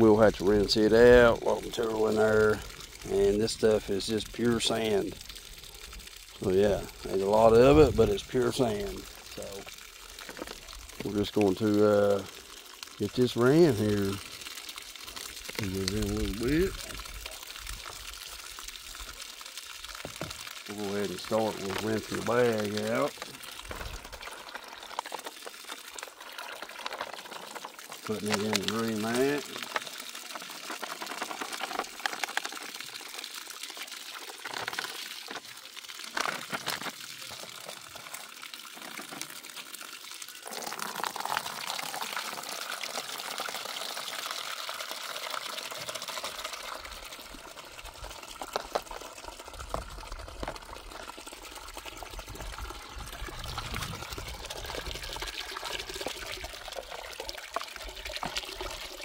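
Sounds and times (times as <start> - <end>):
water running and splashing: 0.0 - 59.0.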